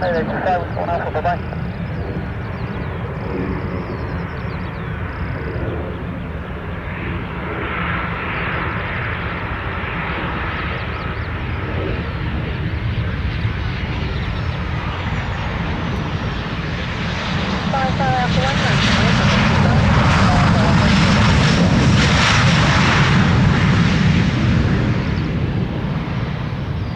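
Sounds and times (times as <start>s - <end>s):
aircraft engine rumble: 0.0s - 26.9s.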